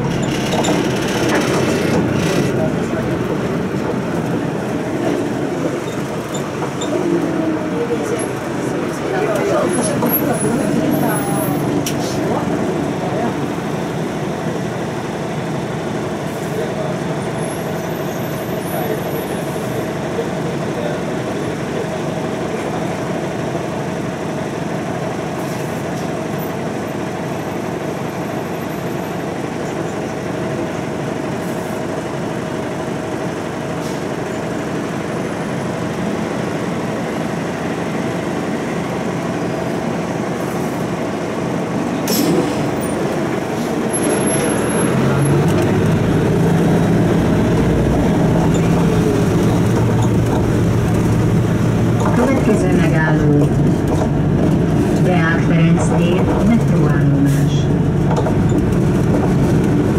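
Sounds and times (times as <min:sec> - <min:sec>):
bus engine accelerating: 0:00.0 - 0:59.9
bus engine idling: 0:00.0 - 0:59.9.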